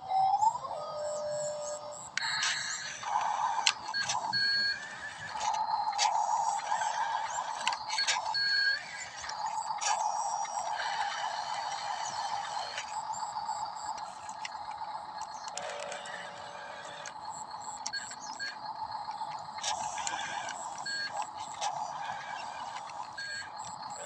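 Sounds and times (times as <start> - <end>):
small electric motors whining: 0.0 - 24.0
clicks: 2.1 - 18.6, 19.2 - 24.0.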